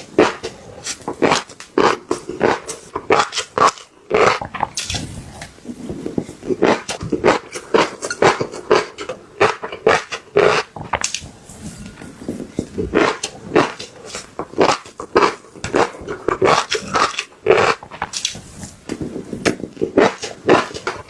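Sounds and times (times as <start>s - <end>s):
crunching and chewing fish roe: 0.0s - 21.0s.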